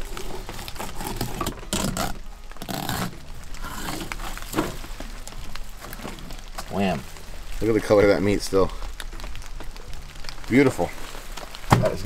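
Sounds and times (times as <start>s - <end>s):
handling of wet fish: 0.0s - 12.0s.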